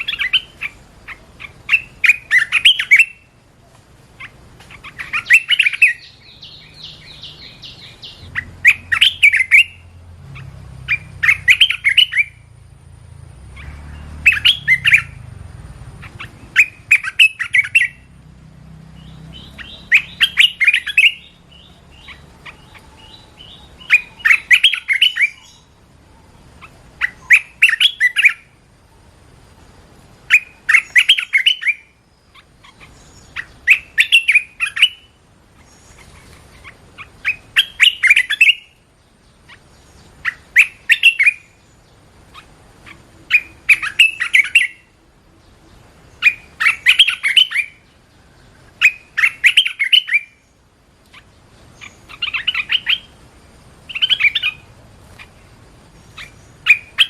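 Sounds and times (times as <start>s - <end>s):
bulbul singing: 0.0s - 57.0s.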